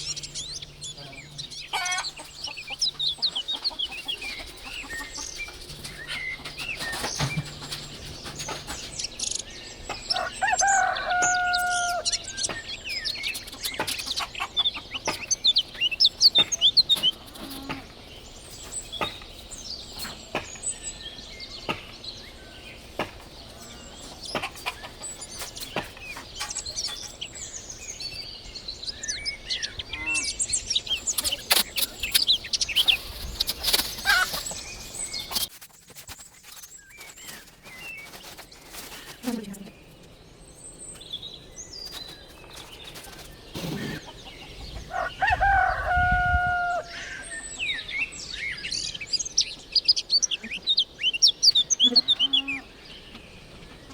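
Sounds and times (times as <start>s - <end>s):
chickens calling: 0.0s - 40.2s, 40.9s - 53.9s
small birds chirping: 0.0s - 53.9s.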